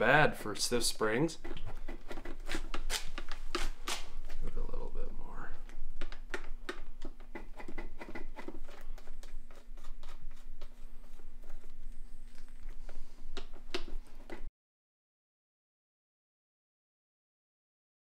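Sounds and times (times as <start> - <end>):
faint steady hum: 0.0 - 14.5.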